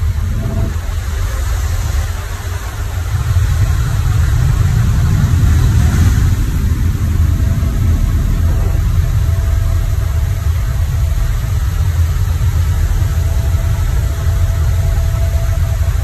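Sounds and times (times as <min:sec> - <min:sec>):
light aircraft engine droning: 0:00.0 - 0:16.0
wind rushing through open door: 0:00.0 - 0:16.0.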